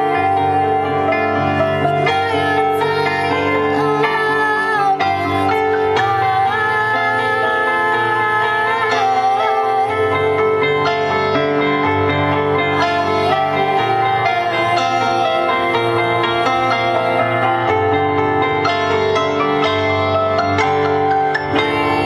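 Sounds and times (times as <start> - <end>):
song with wavering melody: 0.0 - 22.0.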